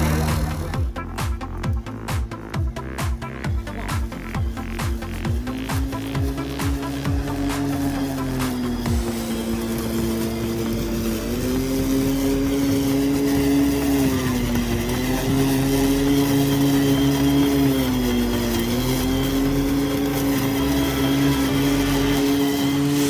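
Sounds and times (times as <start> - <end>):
electric lawn mower humming: 0.0 - 23.0.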